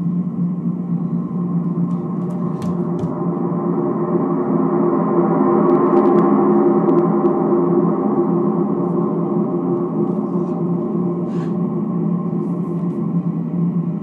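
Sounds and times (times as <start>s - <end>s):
ambient music drone: 0.0s - 14.0s.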